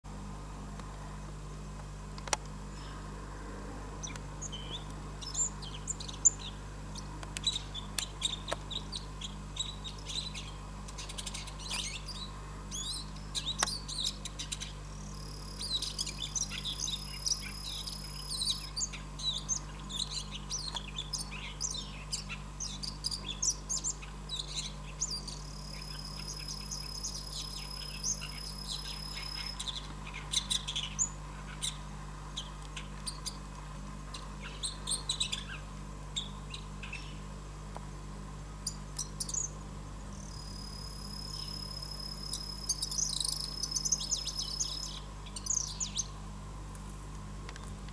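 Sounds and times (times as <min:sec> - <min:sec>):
steady high whine: 0:00.1 - 0:47.9
bird chirping and twittering: 0:04.0 - 0:31.8, 0:32.4 - 0:33.4, 0:34.1 - 0:37.2, 0:38.6 - 0:46.2.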